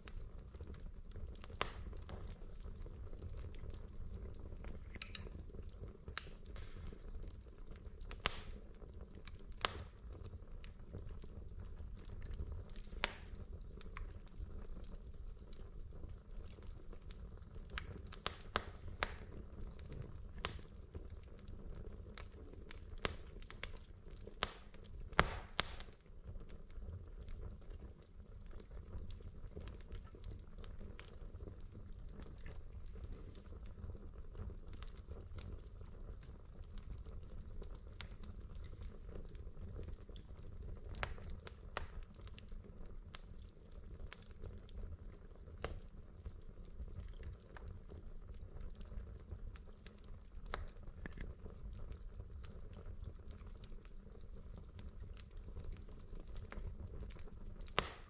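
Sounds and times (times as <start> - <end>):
burning logs crackling: 0.0 - 58.0
fire popping and snapping: 0.0 - 58.0
low fire rumble: 0.0 - 58.0.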